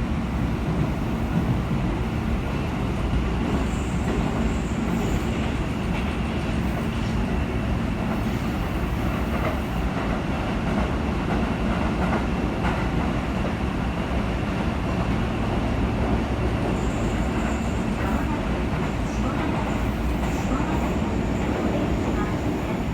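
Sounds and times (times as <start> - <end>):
train wheels rumbling on rails: 0.0 - 22.9.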